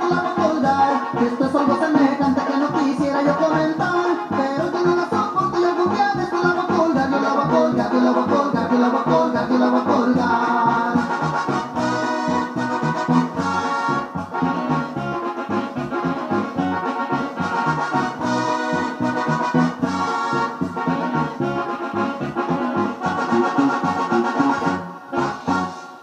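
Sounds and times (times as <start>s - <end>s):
bouncing bass line: 0.0s - 25.8s
accordion playing: 0.0s - 26.0s.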